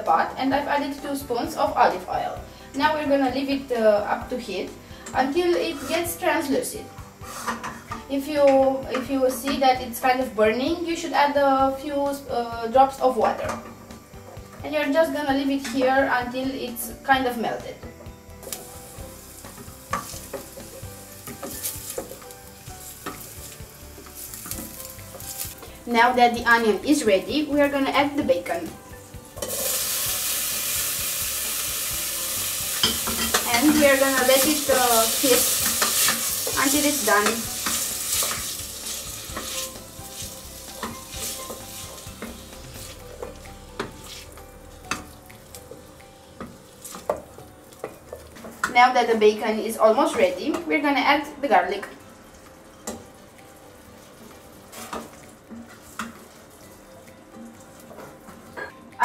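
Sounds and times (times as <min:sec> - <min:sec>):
onion sizzling in oil: 0:00.0 - 0:58.7.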